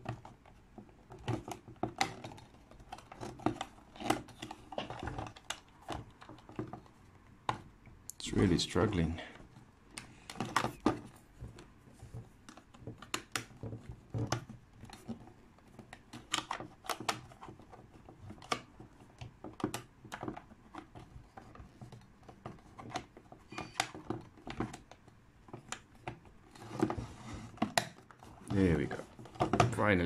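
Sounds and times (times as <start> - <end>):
plastic cover clicking and scraping: 0.0 - 7.7, 8.9 - 30.0.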